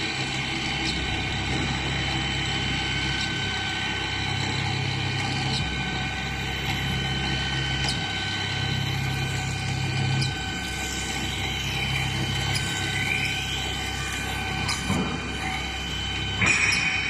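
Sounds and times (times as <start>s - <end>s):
drilling machine whine and hum: 0.0s - 17.0s.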